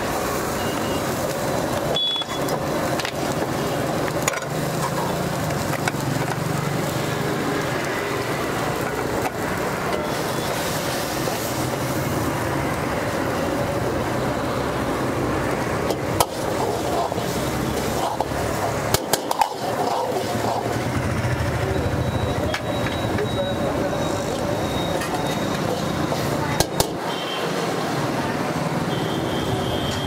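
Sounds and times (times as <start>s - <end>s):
wok burner roaring: 0.0s - 30.0s.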